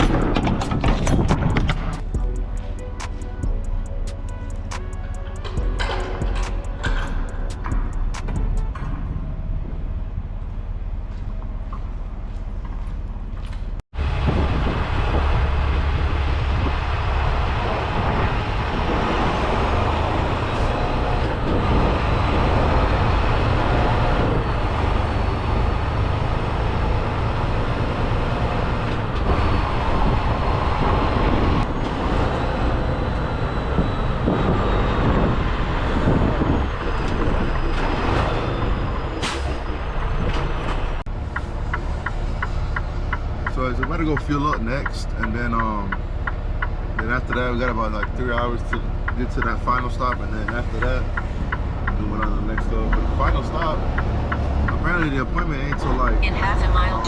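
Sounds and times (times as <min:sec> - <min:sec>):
road noise: 0:00.0 - 0:57.0
truck engine rumbling: 0:00.0 - 0:57.0.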